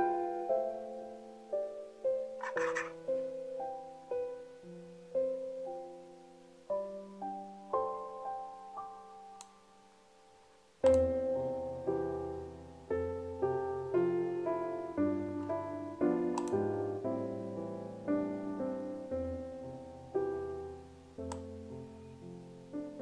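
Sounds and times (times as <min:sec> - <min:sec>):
slow gentle piano chords: 0:00.0 - 0:23.0.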